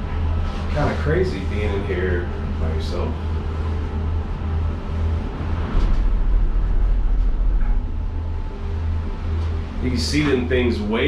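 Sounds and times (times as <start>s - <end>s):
low rumble in gondola cabin: 0.0s - 11.0s.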